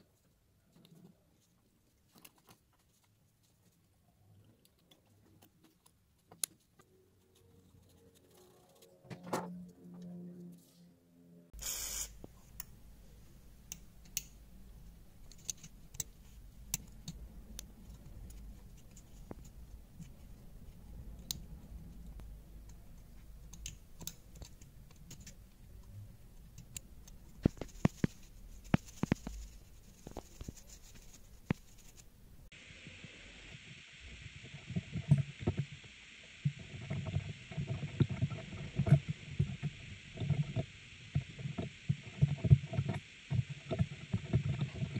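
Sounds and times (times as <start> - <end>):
low steady hum: 6.9 - 44.9.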